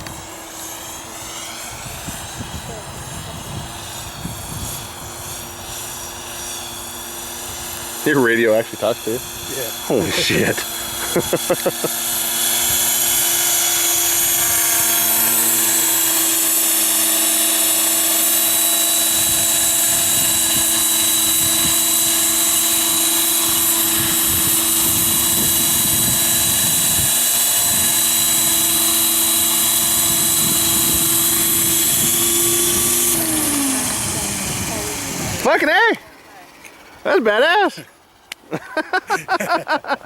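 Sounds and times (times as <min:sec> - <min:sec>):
model helicopter rotor whine: 0:00.0 - 0:40.0.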